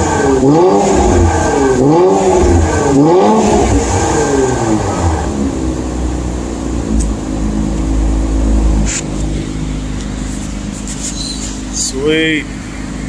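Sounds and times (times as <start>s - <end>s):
car exhaust revving and idling: 0.0s - 13.0s.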